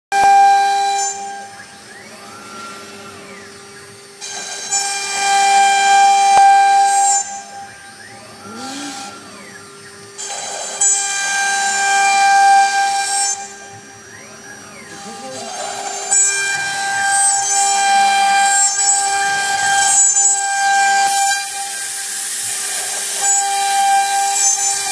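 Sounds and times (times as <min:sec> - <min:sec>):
router bit cutting wood: 0:00.1 - 0:24.9
spindle high whine: 0:00.1 - 0:24.9.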